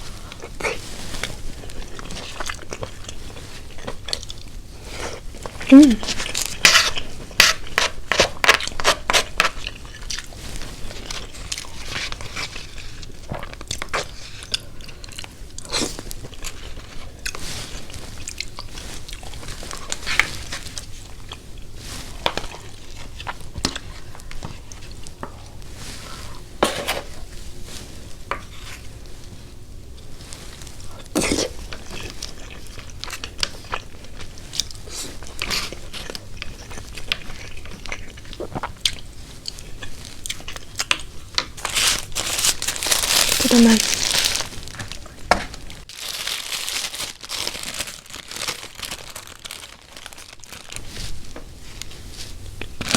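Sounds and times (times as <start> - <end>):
person chewing crunchy food: 0.0 - 26.5, 29.8 - 52.9.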